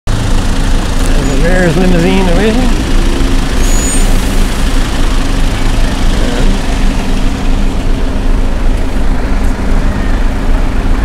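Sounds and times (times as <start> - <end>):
bus and car engines idling: 0.1 - 11.0.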